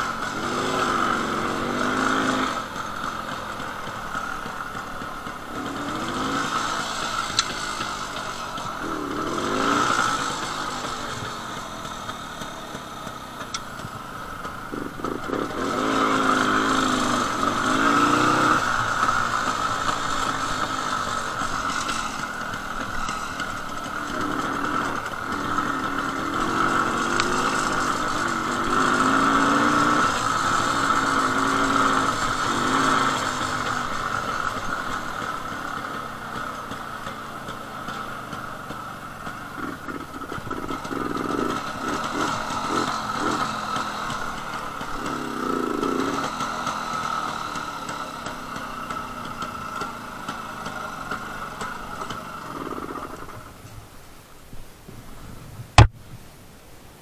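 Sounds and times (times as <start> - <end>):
motorcycle two-stroke engine revving: 0.0 - 53.6.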